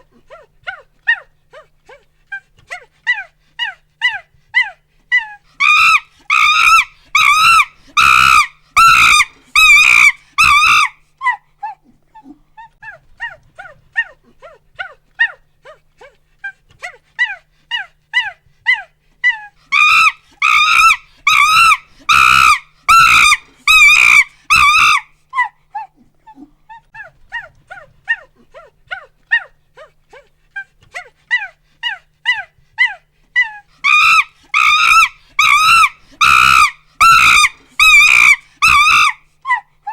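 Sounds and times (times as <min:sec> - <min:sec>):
chimpanzee hoots and screams: 0:02.7 - 0:16.2, 0:16.8 - 0:39.9.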